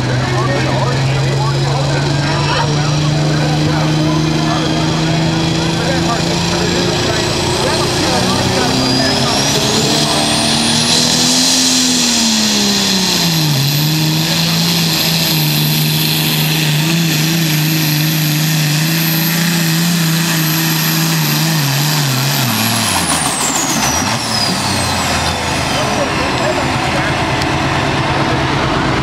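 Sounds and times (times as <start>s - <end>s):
diesel engine running flat out: 0.0s - 29.0s.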